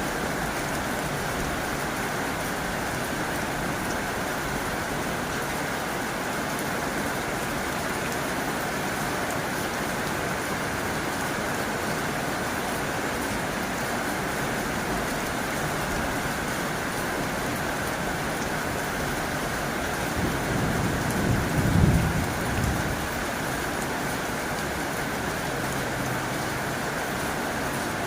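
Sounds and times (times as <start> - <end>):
heavy rain on a tin roof: 0.0 - 28.0.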